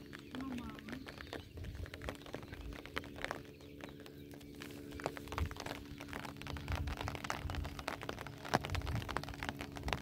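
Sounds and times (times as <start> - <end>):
low rumbling: 0.0 - 10.0
rain drops pattering: 0.0 - 10.0
steady low hum: 0.0 - 10.0.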